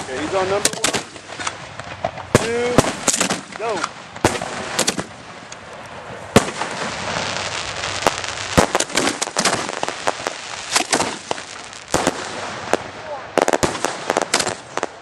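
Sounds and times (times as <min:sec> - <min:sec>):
fireworks bursting with sharp bangs: 0:00.0 - 0:15.0
hissing and crackling stars: 0:00.0 - 0:15.0.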